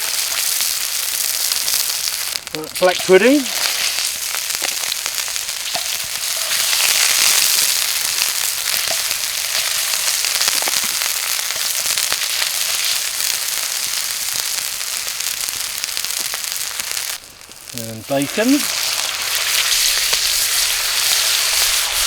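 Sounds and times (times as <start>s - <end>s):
hot fat crackling and spitting: 0.0s - 22.0s
sausages frying in a pan: 0.0s - 22.0s.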